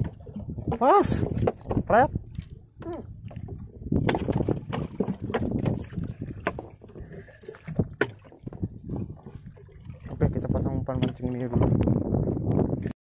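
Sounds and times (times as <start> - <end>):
waves lapping and slapping: 0.0 - 12.9
fishing gear knocks and clicks: 1.3 - 12.0.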